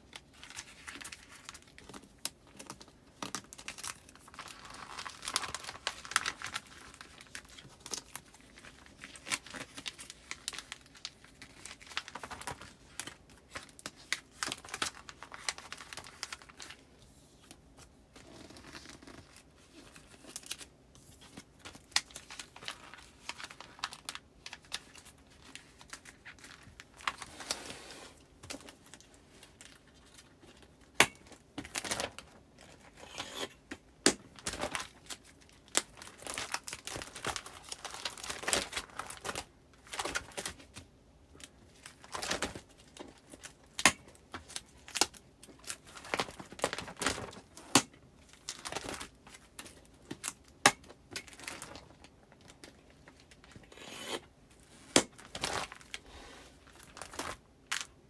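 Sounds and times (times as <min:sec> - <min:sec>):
plastic sleeves rustling and crinkling: 0:00.0 - 0:58.0.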